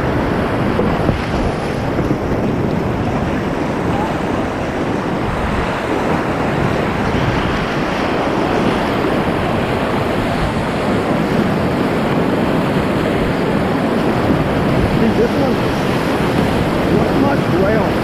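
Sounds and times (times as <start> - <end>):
whitewater rushing: 0.0 - 18.0.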